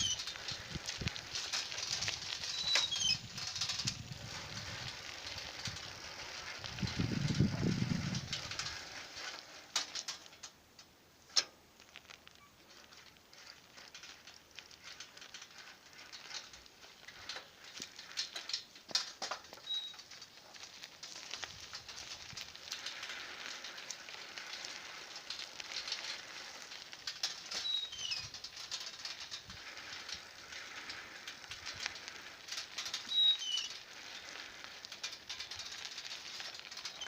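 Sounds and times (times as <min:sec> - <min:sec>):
scattered clicks and ticks: 0:00.0 - 0:37.0.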